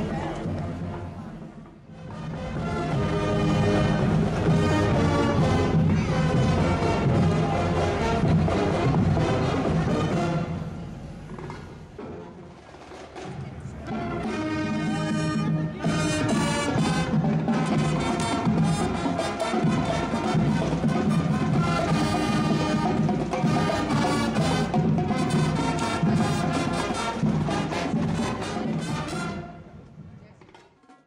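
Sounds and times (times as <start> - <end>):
marching band playing: 0.0 - 30.2.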